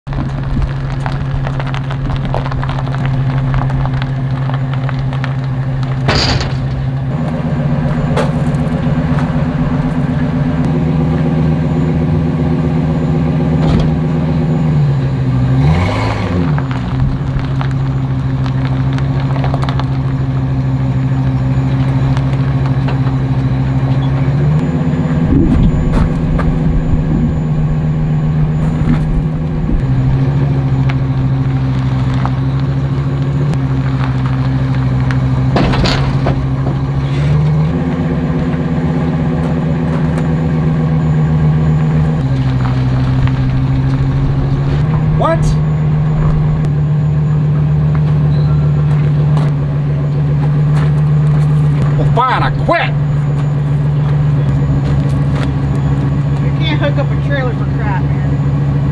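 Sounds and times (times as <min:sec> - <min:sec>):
truck engine idling and revving: 0:00.0 - 0:58.9.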